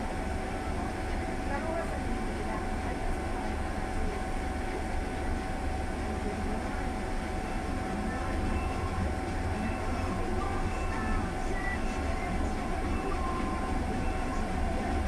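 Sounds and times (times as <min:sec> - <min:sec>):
bus engine rumble: 0:00.0 - 0:15.0
thin steady whine: 0:00.0 - 0:15.0.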